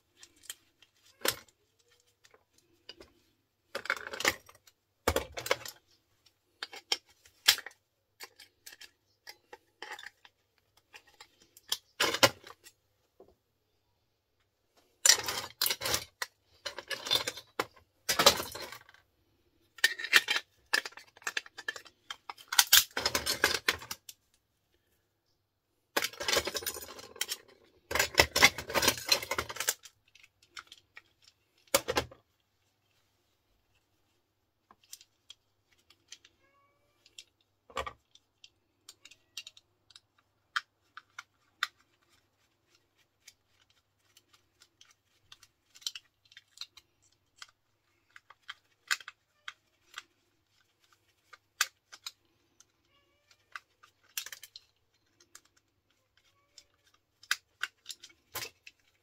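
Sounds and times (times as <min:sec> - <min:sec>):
plastic and metal parts clattering: 0:00.0 - 0:13.3, 0:14.8 - 0:24.2, 0:25.9 - 0:33.8, 0:34.6 - 0:59.0.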